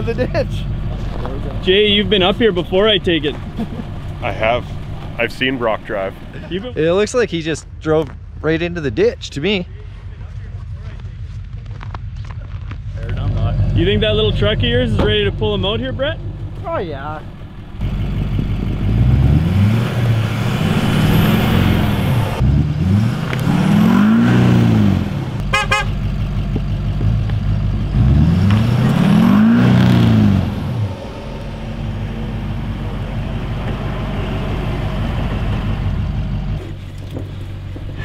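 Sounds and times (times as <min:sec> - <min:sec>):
truck engines revving: 0:00.0 - 0:38.0.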